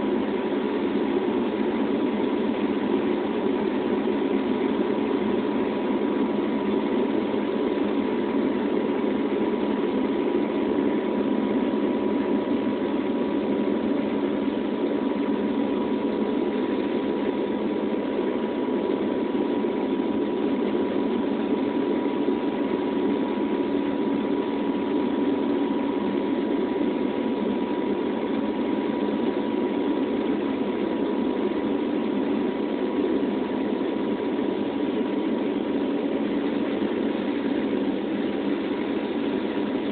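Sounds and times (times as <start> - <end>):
aircraft cabin engine drone: 0.0 - 39.9
thin steady whine: 0.0 - 39.9.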